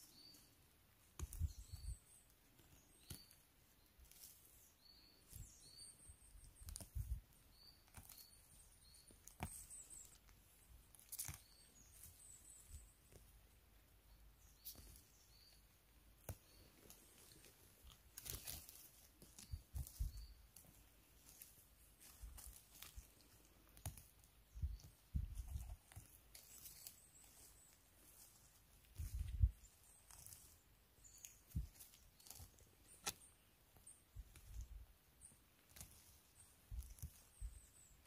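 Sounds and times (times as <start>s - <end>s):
moss and litter rustling and snapping: 0.0s - 38.0s.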